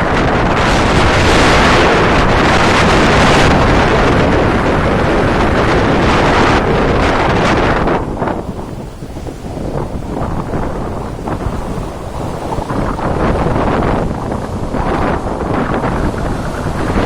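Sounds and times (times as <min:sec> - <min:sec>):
sea waves breaking on shore: 0:00.0 - 0:17.0
wind buffeting microphone: 0:00.0 - 0:17.0.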